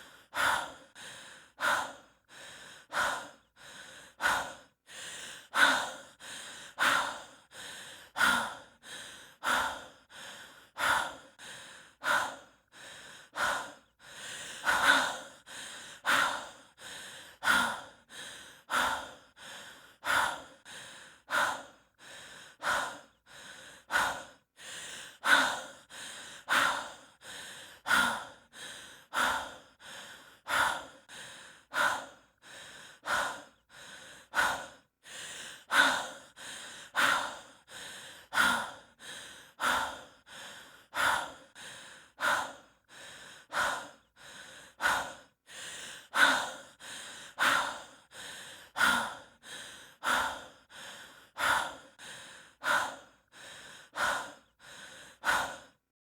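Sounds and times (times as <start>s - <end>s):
person breathing heavily: 0.0s - 55.9s.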